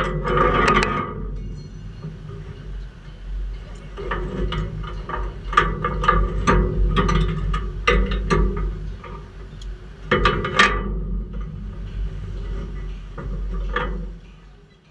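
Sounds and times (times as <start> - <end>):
low machinery hum: 0.0 - 14.9
sharp metal clanks: 0.0 - 14.9.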